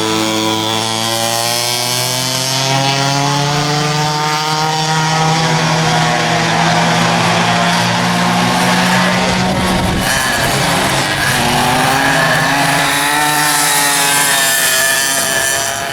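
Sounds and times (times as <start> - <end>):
kart engine at high revs: 0.0 - 15.9.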